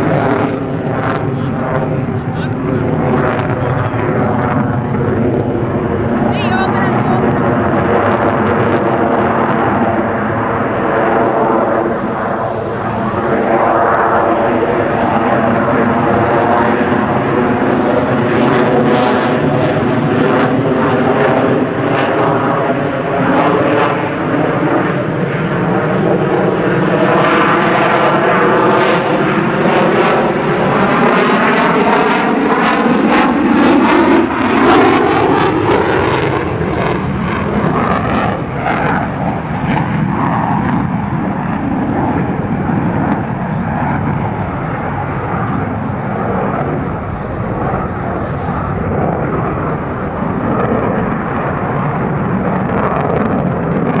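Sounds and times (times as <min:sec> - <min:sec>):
jet engine roar overhead: 0:00.0 - 0:54.0.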